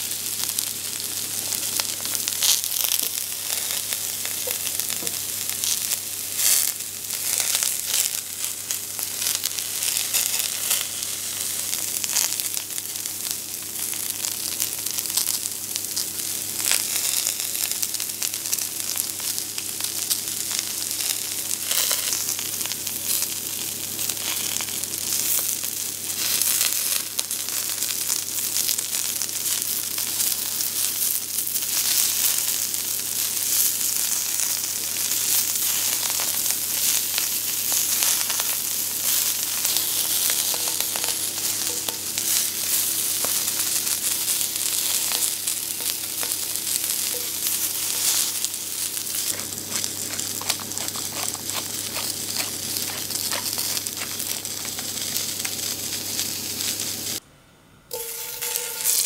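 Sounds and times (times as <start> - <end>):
oil crackling and popping: 0.0 - 57.2
sprouts sizzling in hot oil: 0.0 - 57.2, 57.9 - 59.0.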